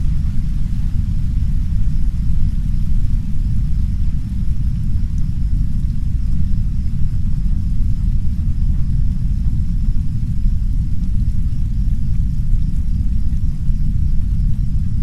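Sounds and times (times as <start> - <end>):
brown noise low rumble: 0.0 - 15.0
soft rain hissing: 0.0 - 15.0.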